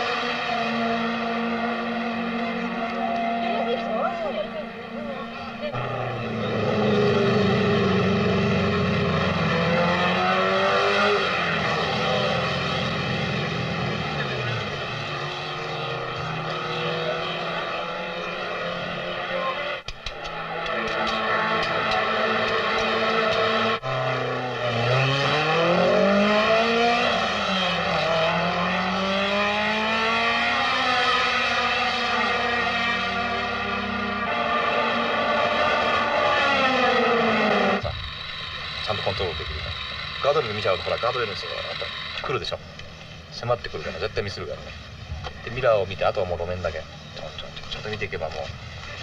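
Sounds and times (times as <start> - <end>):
racing car engines at high revs: 0.0 - 49.0.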